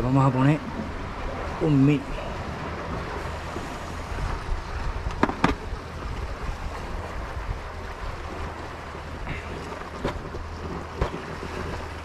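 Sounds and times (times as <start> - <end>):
sea waves washing: 0.0 - 12.0
wind buffeting microphone: 0.0 - 12.0.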